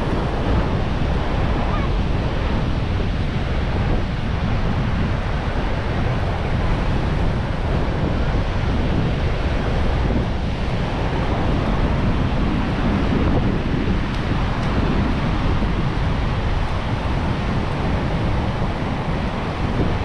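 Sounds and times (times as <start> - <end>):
ocean surf washing on beach: 0.0 - 20.0
wind buffeting microphone: 0.0 - 20.0.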